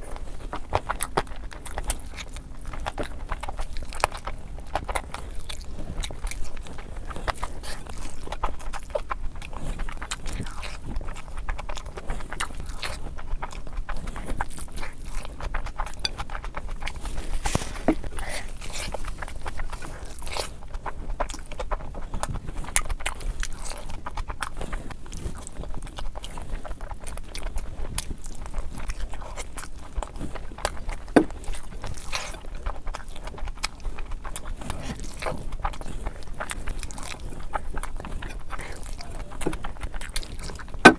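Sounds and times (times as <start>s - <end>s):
wet chewing mouth sounds: 0.0s - 40.9s.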